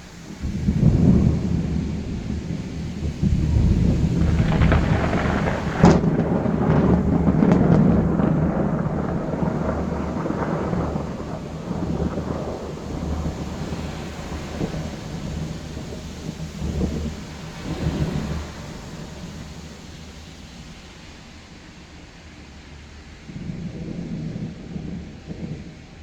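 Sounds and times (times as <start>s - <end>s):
thunder rumbling and cracking: 0.0s - 21.2s, 23.2s - 26.0s
rain: 0.0s - 26.0s.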